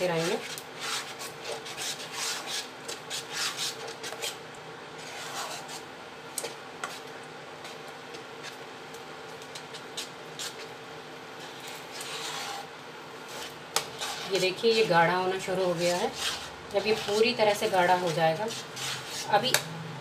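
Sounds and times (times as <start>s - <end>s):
spoon scraping and stirring paste: 0.0s - 4.4s, 5.0s - 19.6s
induction cooktop hum: 0.0s - 20.0s.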